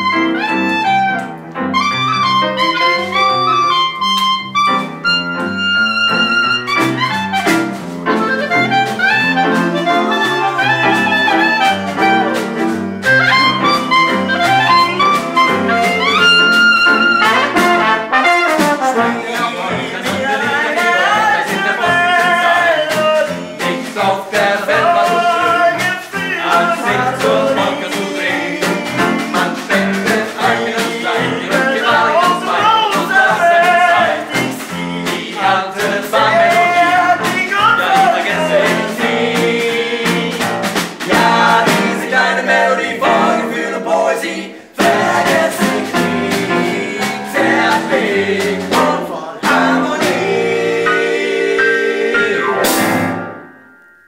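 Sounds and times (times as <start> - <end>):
brass band playing dance tune: 0.0 - 53.5
people singing along: 8.2 - 53.5.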